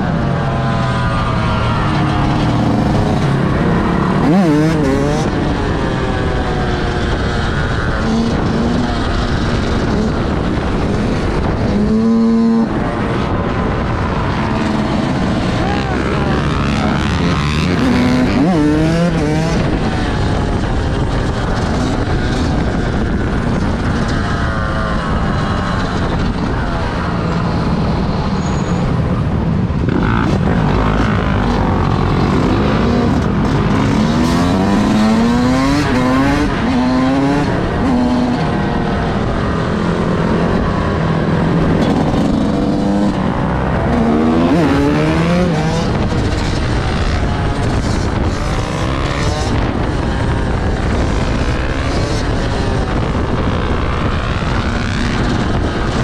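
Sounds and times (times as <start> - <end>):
vehicle engines revving hard: 0.0 - 56.0.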